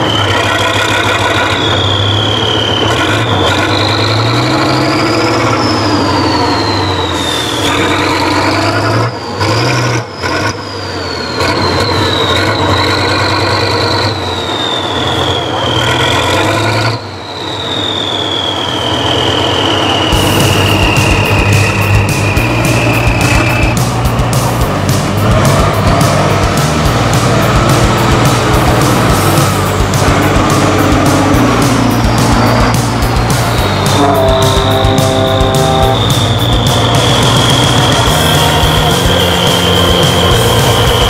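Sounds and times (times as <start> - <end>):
tractor engine revving under load: 0.0 - 17.2, 18.9 - 41.0.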